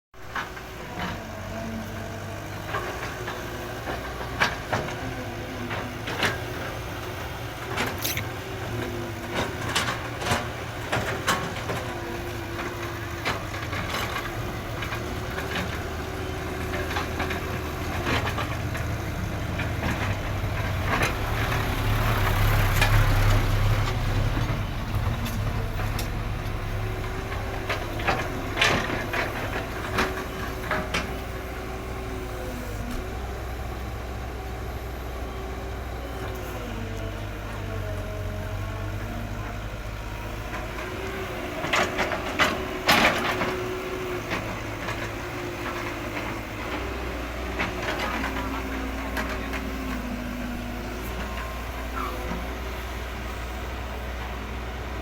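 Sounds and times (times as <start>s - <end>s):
excavator engine running: 0.2s - 55.0s.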